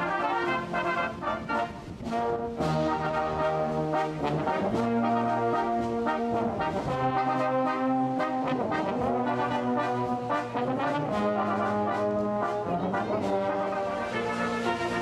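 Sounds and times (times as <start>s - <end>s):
brass band playing chords: 0.0s - 15.0s.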